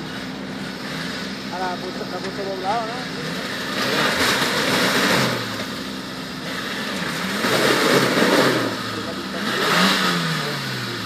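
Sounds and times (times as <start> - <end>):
engine revving in mud: 0.0 - 11.0.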